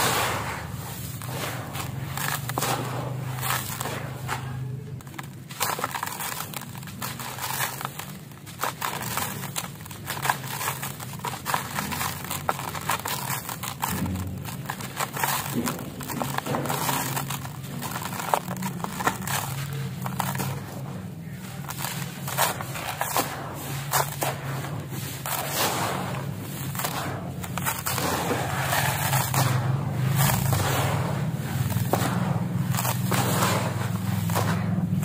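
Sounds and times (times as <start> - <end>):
hands crumbling dry concrete mix: 0.0 - 35.0.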